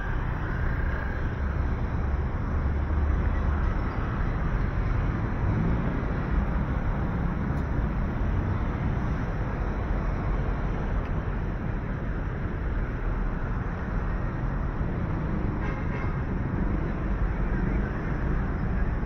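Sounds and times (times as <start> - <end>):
faint vehicle engine hum: 0.0 - 19.0
low traffic rumble: 0.0 - 19.0.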